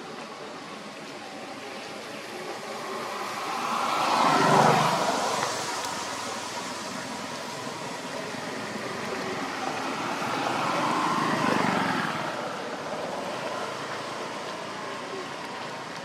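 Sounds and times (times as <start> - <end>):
motor vehicle passing: 1.5 - 16.0.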